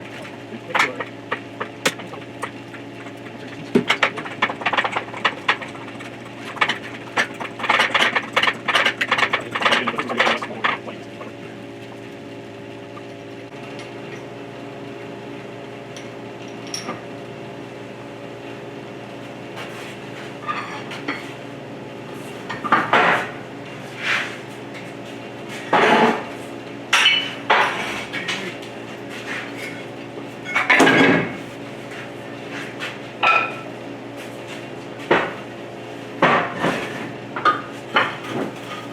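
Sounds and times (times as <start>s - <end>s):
workshop machine humming: 0.0s - 38.9s.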